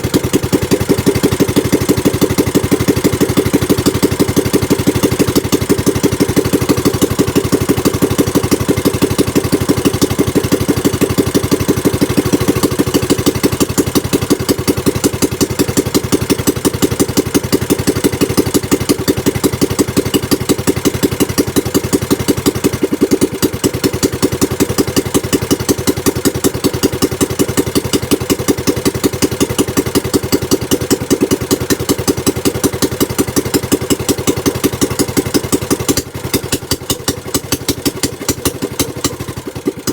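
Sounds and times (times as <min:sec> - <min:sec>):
small boat engine idling: 0:00.0 - 0:39.9.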